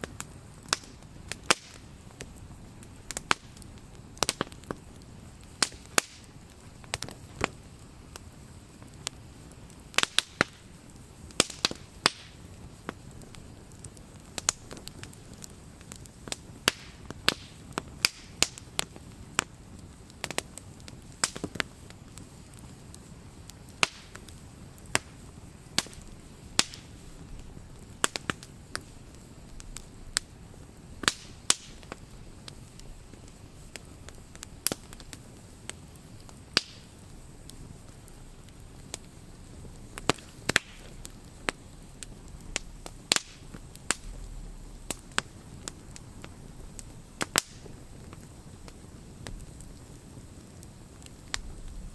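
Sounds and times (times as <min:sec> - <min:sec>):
campfire crackles and pops: 0:00.0 - 0:51.9
fire hissing: 0:00.0 - 0:51.9.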